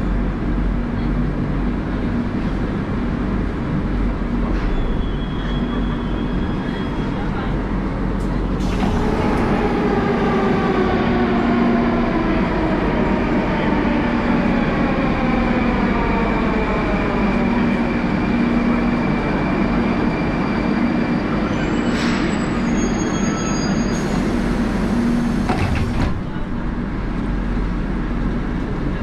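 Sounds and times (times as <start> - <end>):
train car rumble and hum: 0.0 - 29.0.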